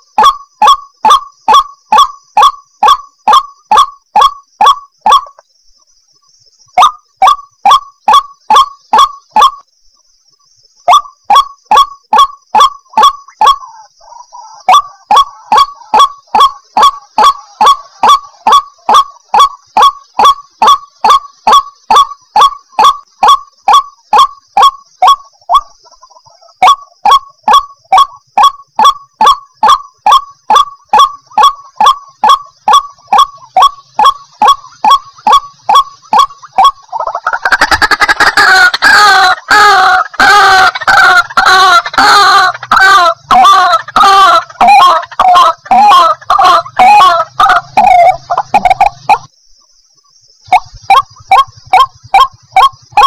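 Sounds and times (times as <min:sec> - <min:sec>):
waterhen harsh repeated call: 0:00.0 - 0:05.4, 0:06.8 - 0:09.6, 0:10.9 - 0:49.3, 0:50.4 - 0:53.0.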